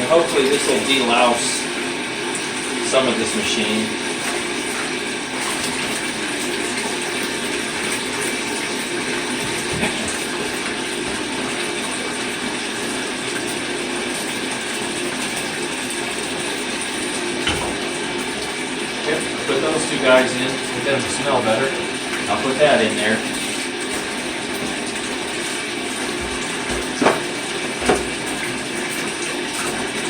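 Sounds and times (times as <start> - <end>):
tap water running into a tub: 0.0 - 30.0.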